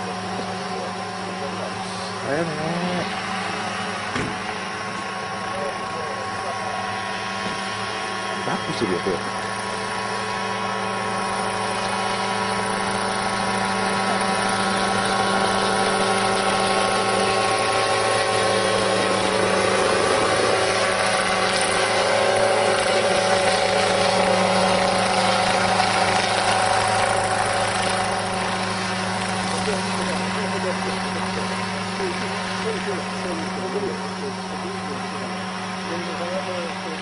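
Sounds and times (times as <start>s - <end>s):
small helicopter engine and rotor: 0.0s - 37.0s.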